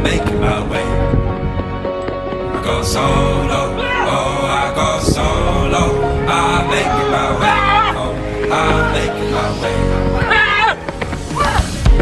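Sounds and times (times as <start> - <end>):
person singing: 0.0 - 1.6, 2.4 - 10.8
background music: 0.0 - 12.0.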